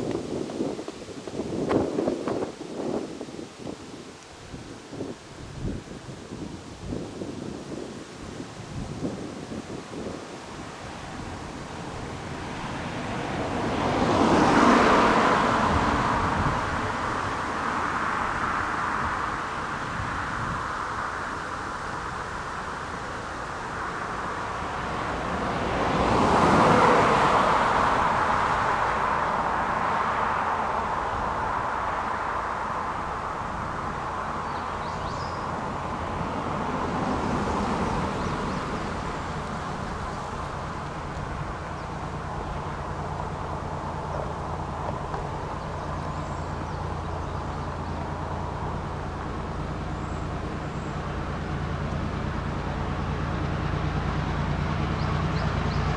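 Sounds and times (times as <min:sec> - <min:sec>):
cars passing: 0:08.7 - 0:55.9.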